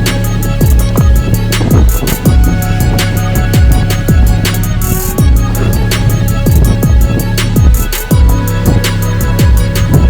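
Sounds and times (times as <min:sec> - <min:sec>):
deep kick drums: 0:00.0 - 0:10.0
electronic music with a beat: 0:00.0 - 0:10.0
fast hi-hat ticks: 0:00.0 - 0:10.0
held synth notes: 0:00.0 - 0:10.0.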